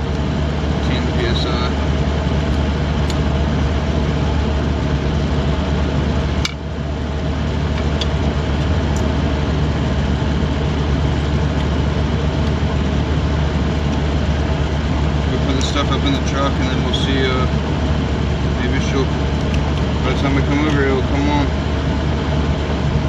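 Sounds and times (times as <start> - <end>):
machinery droning: 0.0 - 23.0.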